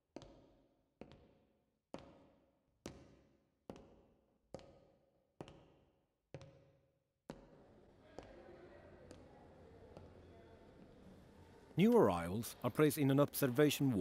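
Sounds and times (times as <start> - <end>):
echoing footsteps: 0.0 - 12.9.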